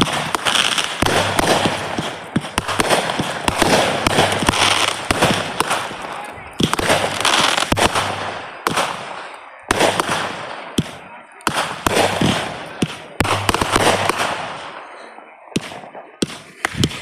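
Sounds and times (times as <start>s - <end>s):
fireworks bangs: 0.0s - 17.0s
fireworks crackling and popping: 0.0s - 17.0s.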